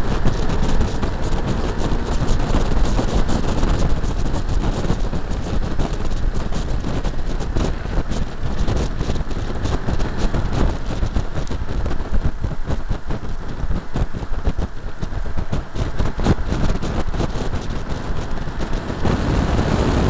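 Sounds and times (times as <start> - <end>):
car road and engine noise: 0.0 - 20.0
wind buffeting microphone: 0.0 - 20.0.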